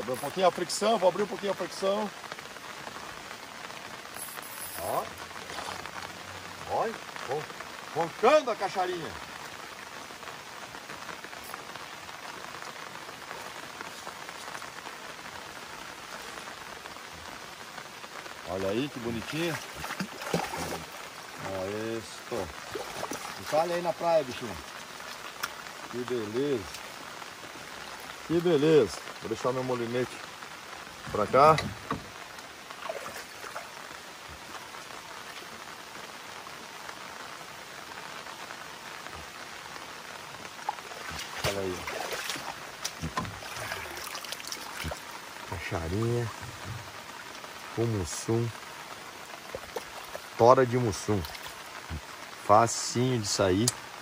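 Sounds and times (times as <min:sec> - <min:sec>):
rain falling on river: 0:00.0 - 0:54.0.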